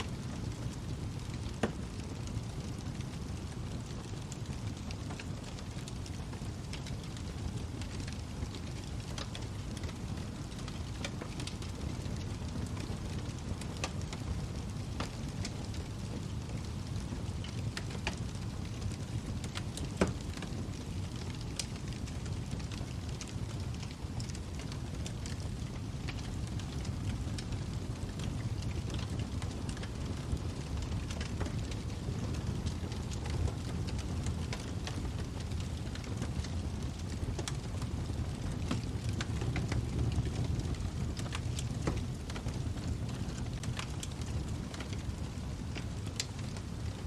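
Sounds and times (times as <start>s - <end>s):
fire crackling and popping: 0.0s - 47.0s
flames rumbling: 0.0s - 47.0s.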